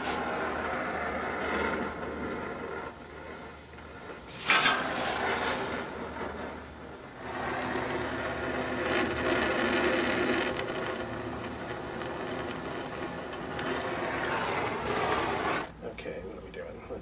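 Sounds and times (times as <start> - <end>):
torch flame hissing: 0.0 - 15.8.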